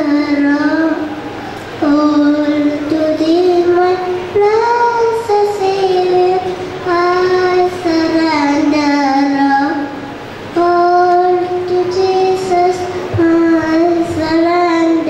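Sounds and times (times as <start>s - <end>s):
girl singing into a microphone: 0.0s - 15.0s.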